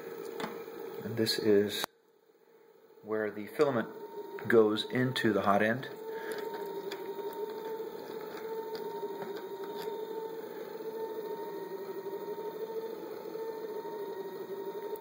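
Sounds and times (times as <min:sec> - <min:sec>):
three d printer humming: 0:00.0 - 0:01.9, 0:03.0 - 0:15.0.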